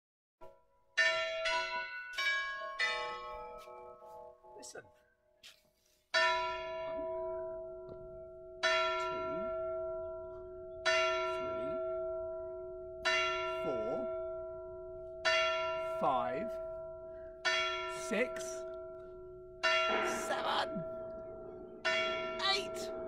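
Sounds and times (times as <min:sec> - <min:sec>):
tower clock bell striking: 0:01.0 - 0:04.7, 0:06.1 - 0:23.0.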